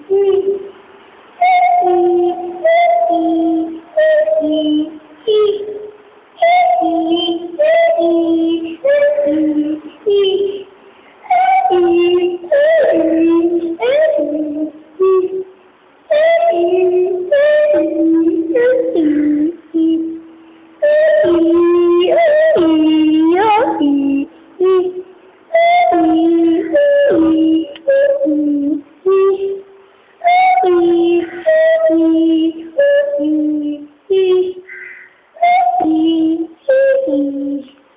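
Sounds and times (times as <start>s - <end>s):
high voice singing: 0.0s - 37.9s.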